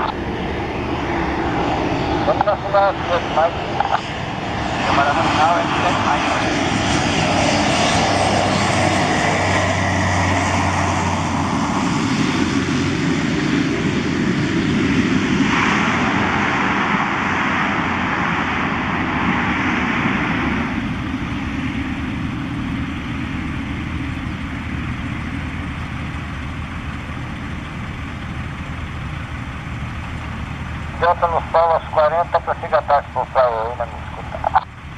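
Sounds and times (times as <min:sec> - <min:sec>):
light plane engine: 0:00.0 - 0:34.9.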